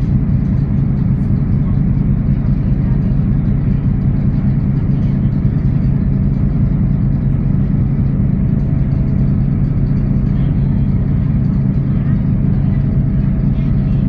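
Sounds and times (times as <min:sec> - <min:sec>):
ferry engines humming: 0:00.0 - 0:14.0.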